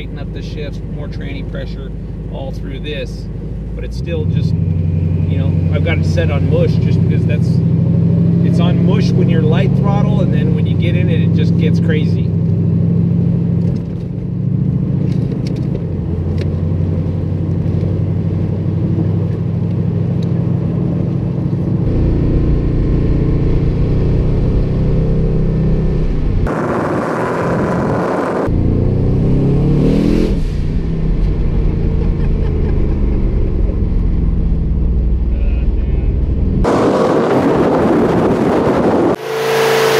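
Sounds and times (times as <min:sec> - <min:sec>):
car engine from inside cabin: 0:00.0 - 0:36.9
loud rushing of acceleration: 0:00.2 - 0:39.9.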